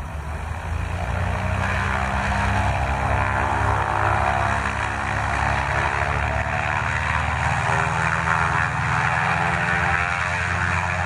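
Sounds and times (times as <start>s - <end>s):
blimp engines humming: 0.0s - 11.0s.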